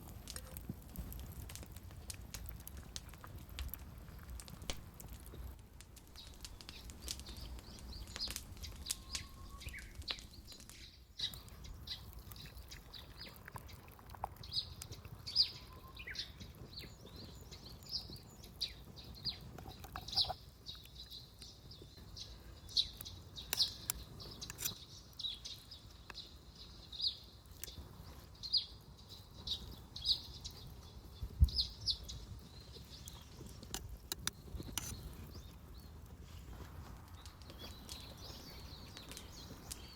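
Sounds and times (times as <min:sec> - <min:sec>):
campfire crackling and popping: 0:00.0 - 0:39.9
small birds chirping: 0:01.4 - 0:39.9.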